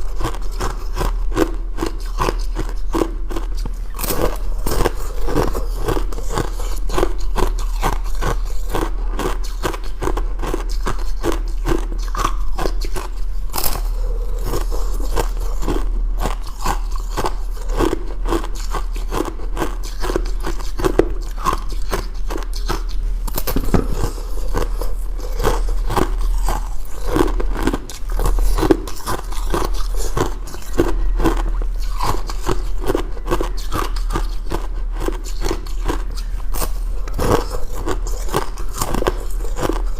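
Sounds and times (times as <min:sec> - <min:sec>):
person crunching ice: 0:00.0 - 0:39.9
steady low hum: 0:00.0 - 0:39.9.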